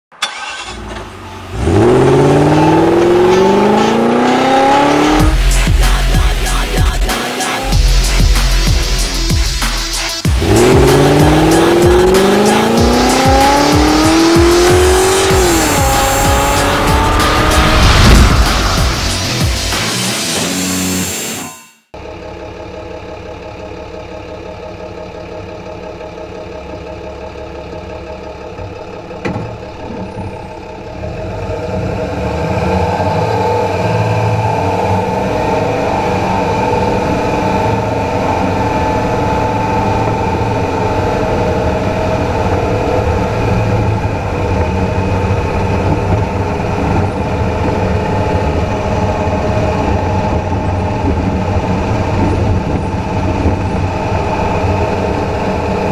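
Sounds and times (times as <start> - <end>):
road and drivetrain rumble: 0.1 - 21.3, 21.9 - 55.9
drivetrain whine: 0.2 - 55.9.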